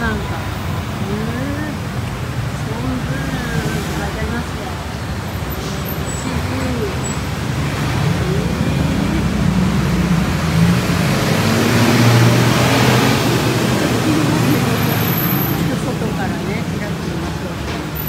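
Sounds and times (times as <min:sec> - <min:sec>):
road traffic noise: 0:00.0 - 0:18.0
vehicle engine hum passing: 0:03.2 - 0:18.0.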